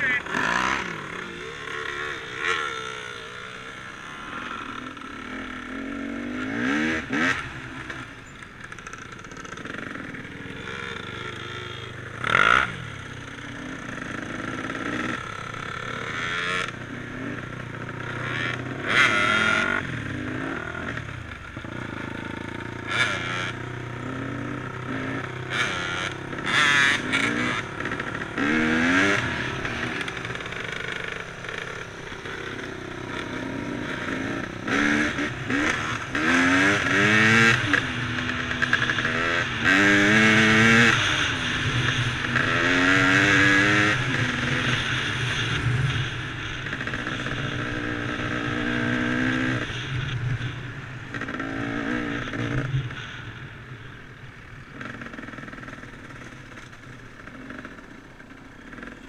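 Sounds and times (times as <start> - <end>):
dirt bike engine revving: 0.0 - 53.3, 54.1 - 59.0.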